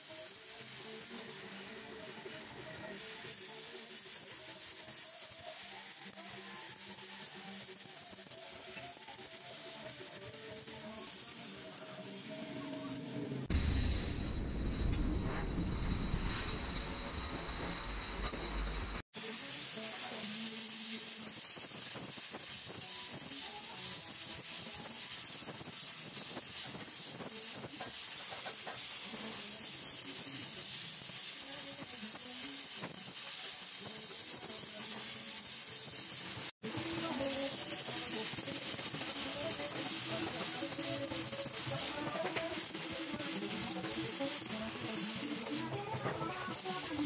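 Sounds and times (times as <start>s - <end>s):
welding torch flame hissing: 0.0s - 47.0s.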